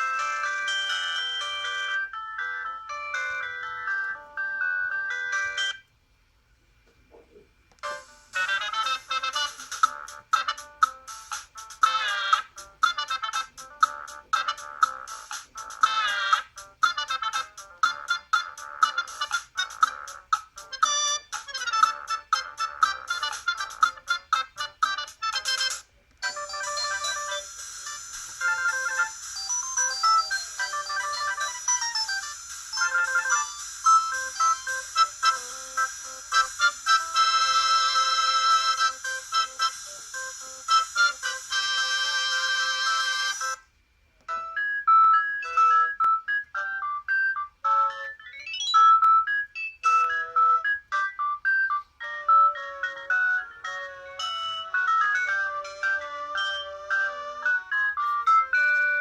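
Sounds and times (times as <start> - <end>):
mobile phone ringtone melody: 0.0 - 5.9, 7.8 - 43.6, 44.3 - 59.0.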